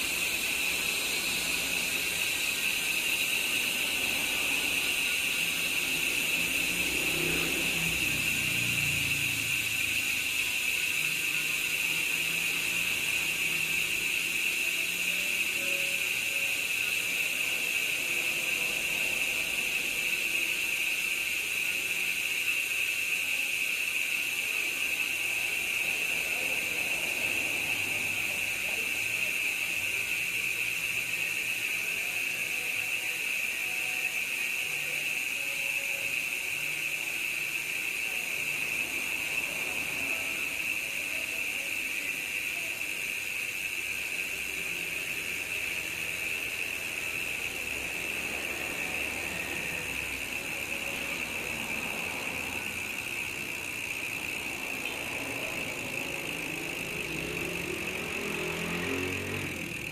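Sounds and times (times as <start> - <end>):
bike hub freewheel buzzing: 0.0 - 59.9.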